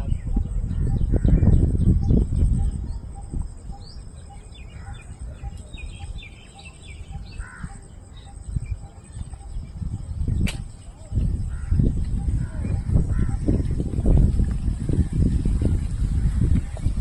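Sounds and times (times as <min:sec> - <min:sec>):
birds calling and chirping: 0:00.0 - 0:17.0.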